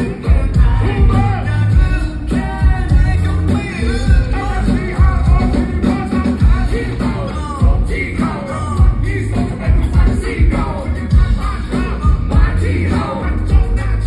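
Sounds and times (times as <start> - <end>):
person singing: 0.0 - 14.0
rock song: 0.0 - 14.0.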